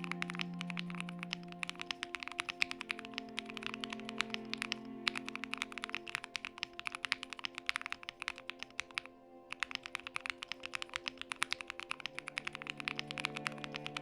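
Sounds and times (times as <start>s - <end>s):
background music: 0.0s - 14.0s
fast typing on mechanical keyboard: 0.0s - 14.0s.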